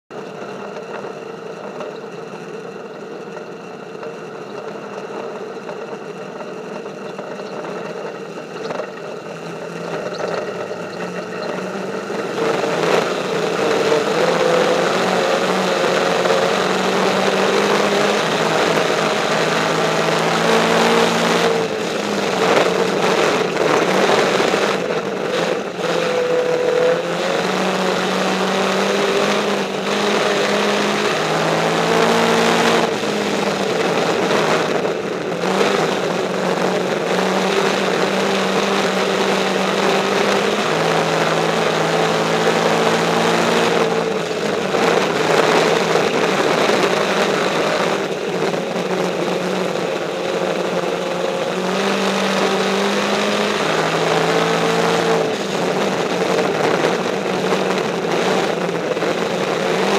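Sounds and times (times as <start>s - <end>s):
race car engine revving: 0.1s - 59.9s.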